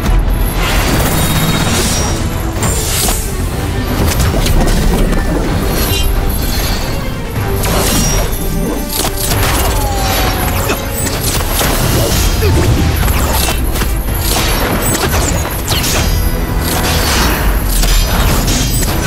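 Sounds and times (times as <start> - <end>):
dramatic soundtrack music: 0.0 - 19.0.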